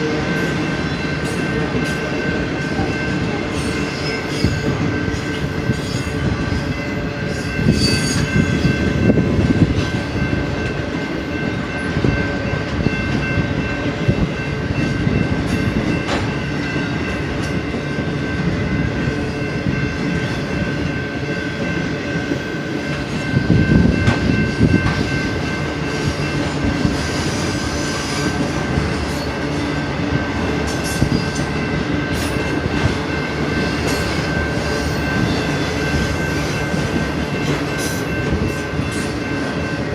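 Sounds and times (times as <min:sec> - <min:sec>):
freight train rumble: 0:00.0 - 0:39.9.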